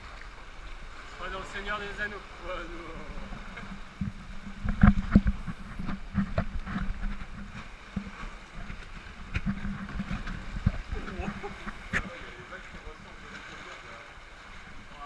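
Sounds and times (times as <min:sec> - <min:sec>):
paddle strokes splashing: 0:00.0 - 0:15.0
water slapping against kayak hull: 0:00.0 - 0:15.0.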